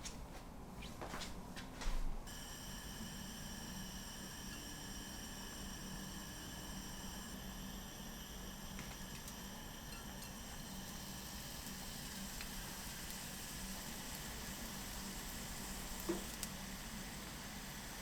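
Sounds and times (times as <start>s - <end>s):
food sizzling in a frying pan: 2.3s - 18.0s.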